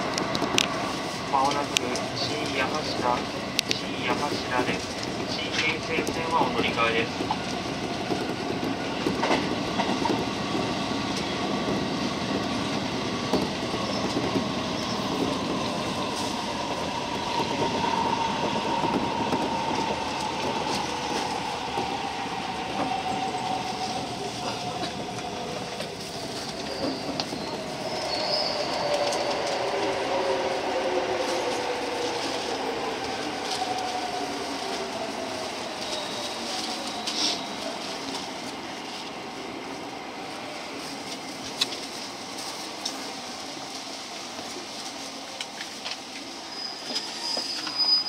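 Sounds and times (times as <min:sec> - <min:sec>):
train wheels rumbling over rails: 0:00.0 - 0:48.0.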